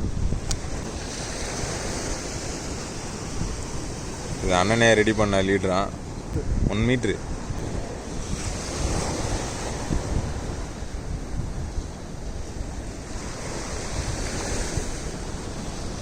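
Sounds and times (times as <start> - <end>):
surf breaking on beach: 0.0 - 16.0
wind buffeting microphone: 0.0 - 16.0.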